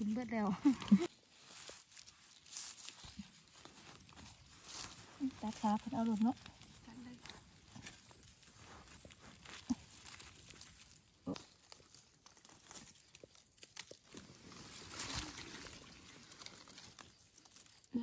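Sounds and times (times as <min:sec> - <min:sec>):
dry leaves crackling: 0:00.0 - 0:18.0
leaves rustling: 0:00.0 - 0:18.0.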